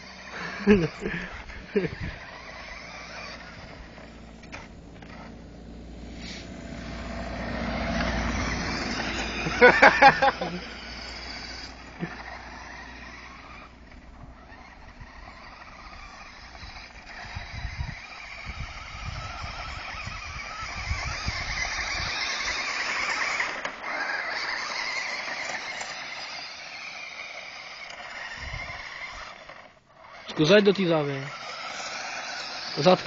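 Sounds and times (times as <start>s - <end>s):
small vehicle running hiss: 0.0s - 33.0s.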